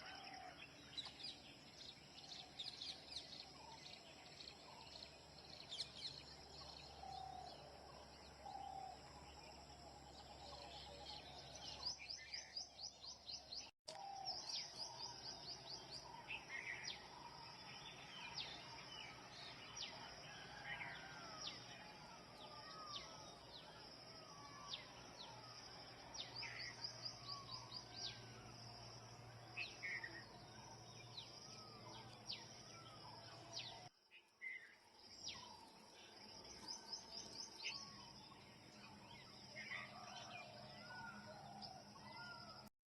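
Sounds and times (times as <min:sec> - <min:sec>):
birds chirping and trilling: 0:00.0 - 0:42.7.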